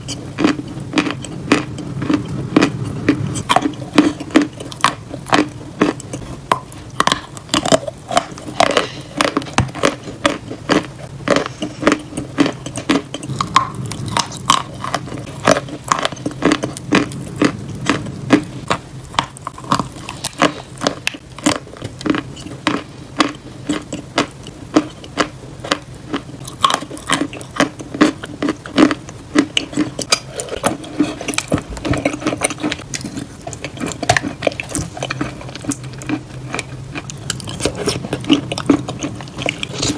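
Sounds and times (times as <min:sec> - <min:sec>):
crunching and chewing chalk: 0:00.0 - 0:39.9.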